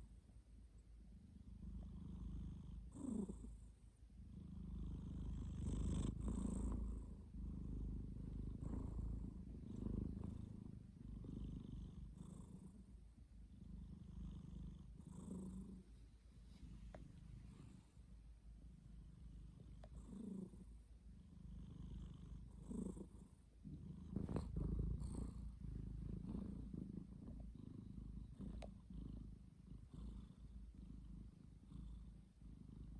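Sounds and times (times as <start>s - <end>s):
cat snoring: 1.6s - 12.9s, 13.5s - 15.9s, 19.1s - 32.9s.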